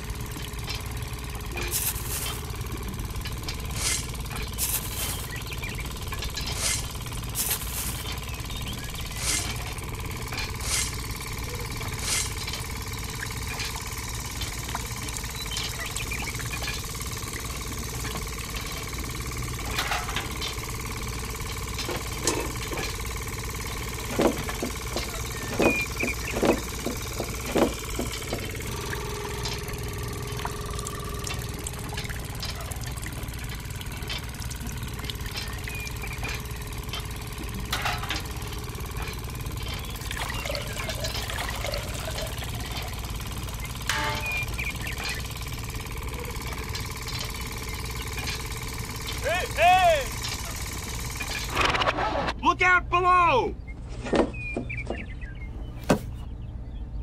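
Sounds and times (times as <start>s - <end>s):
small motor humming: 0.0s - 51.8s.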